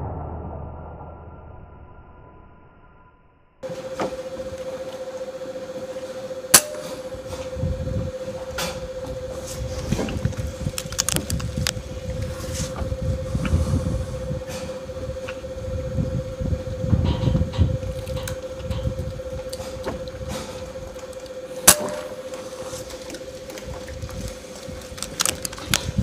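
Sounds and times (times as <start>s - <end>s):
low rumble: 0.0s - 26.0s
steady humming tone: 3.6s - 26.0s.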